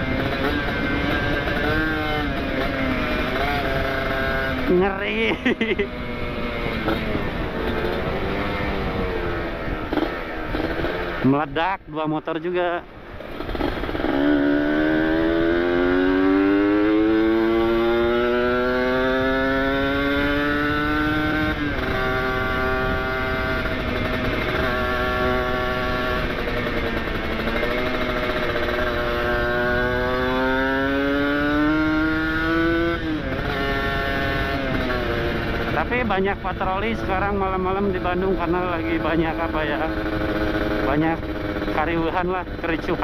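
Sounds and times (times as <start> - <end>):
two-stroke motorcycle engine revving: 0.0 - 43.0.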